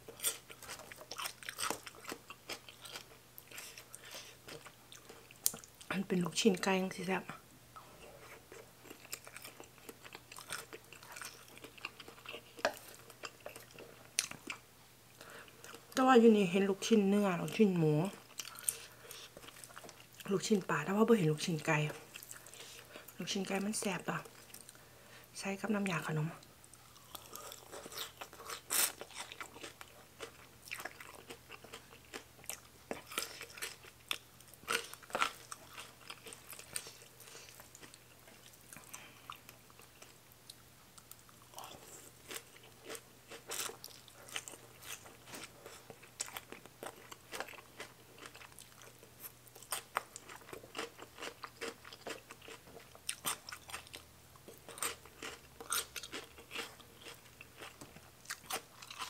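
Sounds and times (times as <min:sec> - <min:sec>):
person chewing and crunching: 0:00.0 - 0:05.9, 0:07.8 - 0:14.6, 0:18.2 - 0:20.3, 0:21.9 - 0:23.6, 0:26.8 - 0:59.0.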